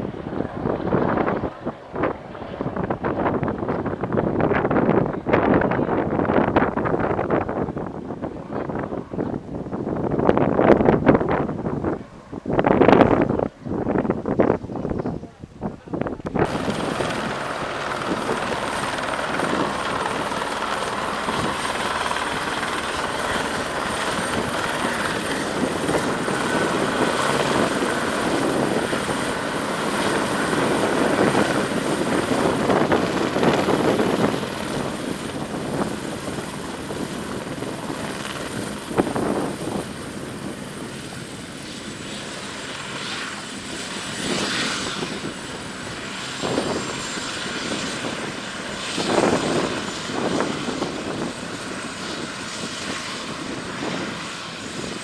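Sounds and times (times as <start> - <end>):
helicopter rotor noise: 0.0 - 55.0
helicopter turbine whine: 0.0 - 55.0.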